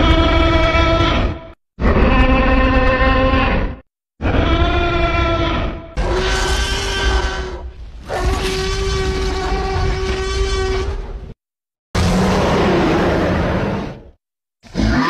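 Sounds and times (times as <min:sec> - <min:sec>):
loud long dinosaur roars: 0:01.8 - 0:11.4, 0:12.0 - 0:15.0.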